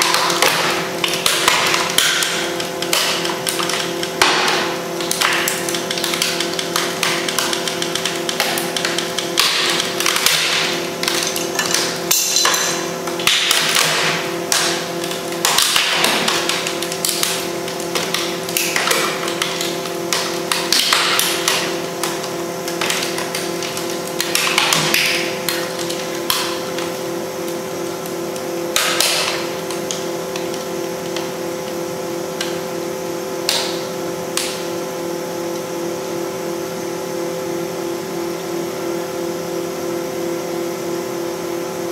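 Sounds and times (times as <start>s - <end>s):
machine humming: 0.0s - 41.9s.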